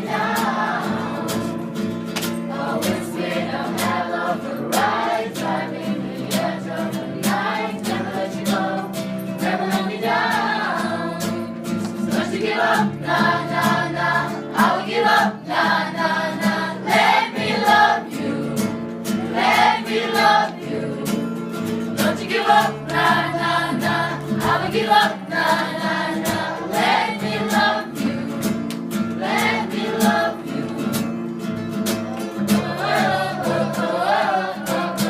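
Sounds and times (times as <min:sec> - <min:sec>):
group singing in chorus: 0:00.0 - 0:31.6, 0:32.3 - 0:35.0.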